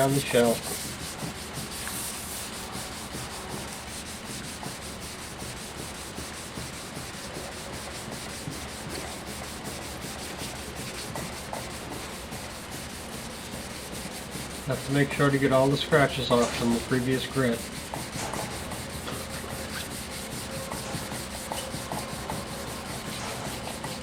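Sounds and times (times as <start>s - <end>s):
wet sanding scraping: 0.0s - 24.0s.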